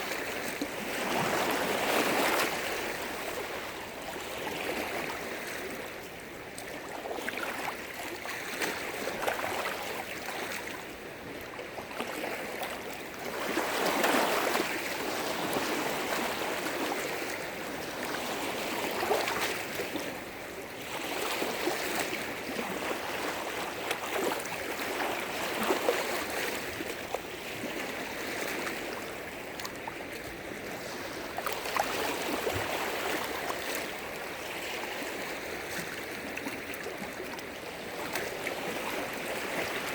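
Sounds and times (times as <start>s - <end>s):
lake waves splashing on shore: 0.0s - 6.0s, 6.6s - 39.9s.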